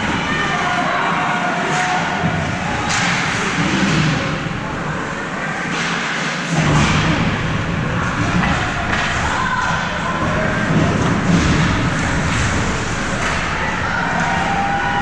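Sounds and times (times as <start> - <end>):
crowd voices in a large hall: 0.0 - 15.0.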